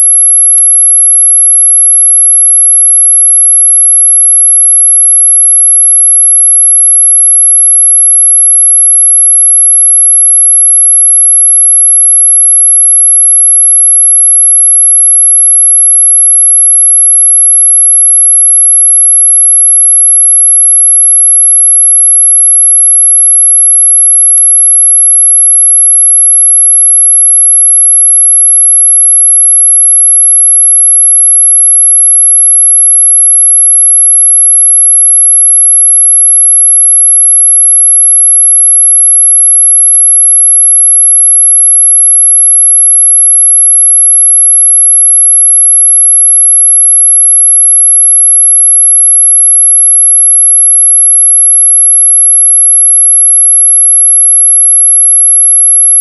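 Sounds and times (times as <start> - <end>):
high-pitched sine tone: 0.0 - 56.0.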